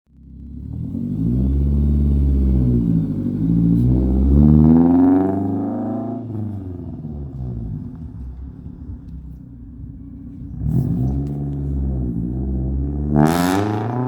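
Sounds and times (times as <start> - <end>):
car engine revving: 0.2 - 14.0.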